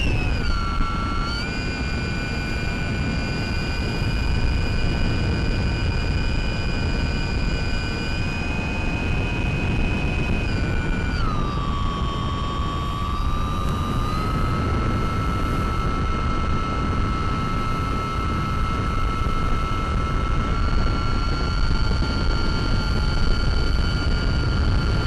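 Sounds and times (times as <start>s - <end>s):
electric motor whining: 0.0s - 25.0s
wind noise: 0.0s - 25.0s.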